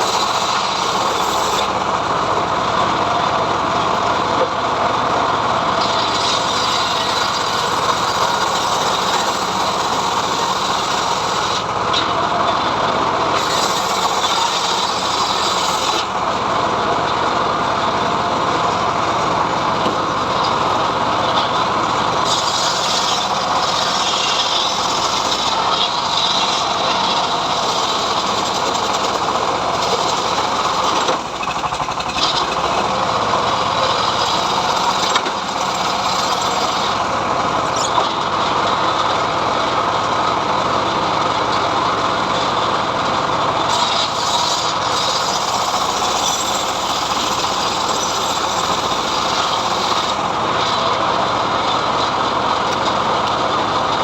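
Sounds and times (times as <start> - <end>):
engine-driven sawmill running: 0.0 - 54.0.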